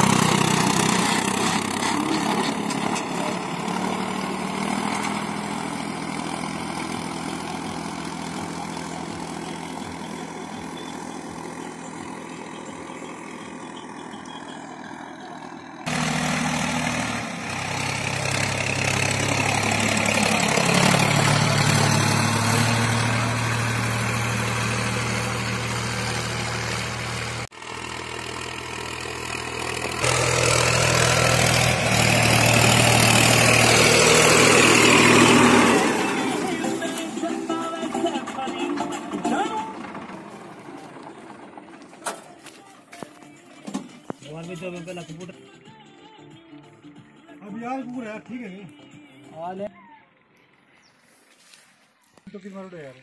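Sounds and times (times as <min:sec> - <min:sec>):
tractor diesel engine running: 0:00.0 - 0:46.5.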